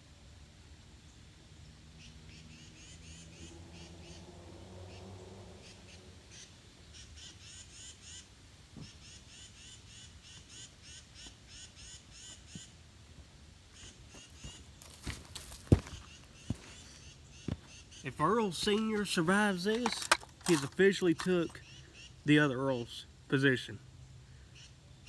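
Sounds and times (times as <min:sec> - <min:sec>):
bird chirping: 0:01.1 - 0:12.7, 0:13.8 - 0:25.0.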